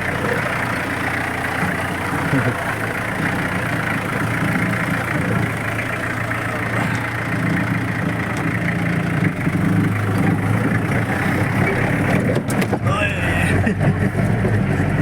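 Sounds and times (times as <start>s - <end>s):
engine running with low hum: 0.0s - 15.0s.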